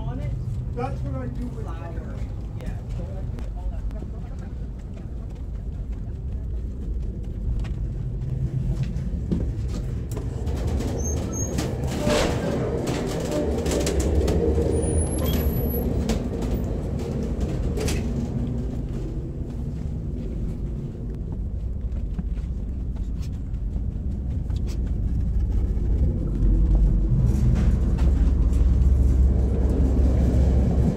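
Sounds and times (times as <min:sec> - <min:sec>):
train rumbling on rails: 0:00.0 - 0:30.9.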